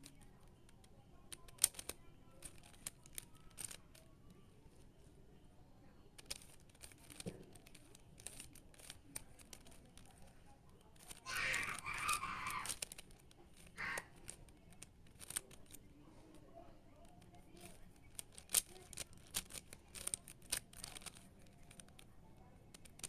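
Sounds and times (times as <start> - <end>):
plastic puzzle cube turning clicks: 0.0 - 4.4, 6.1 - 23.0.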